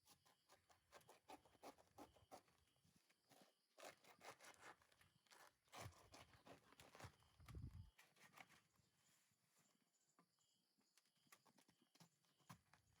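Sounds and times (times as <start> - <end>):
faint rustling and scraping: 0.0 - 13.0.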